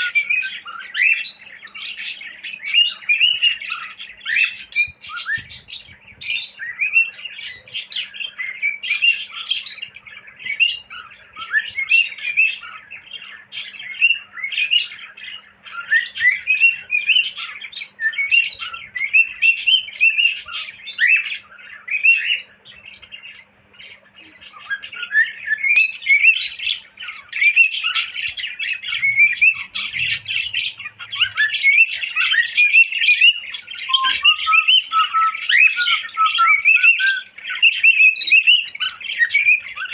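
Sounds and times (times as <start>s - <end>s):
cockatiel chirping and whistling: 0.0s - 23.2s, 23.8s - 39.9s.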